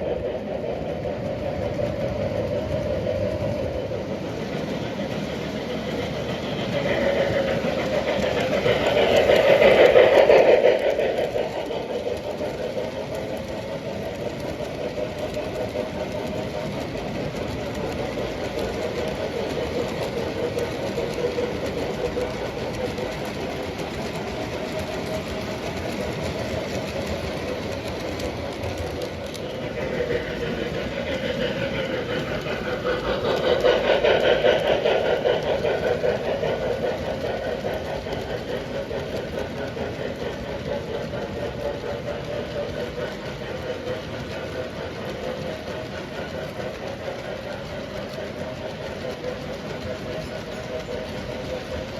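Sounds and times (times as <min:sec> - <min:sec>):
model train motor hum: 0:00.0 - 0:51.9
rail clatter: 0:00.0 - 0:51.9.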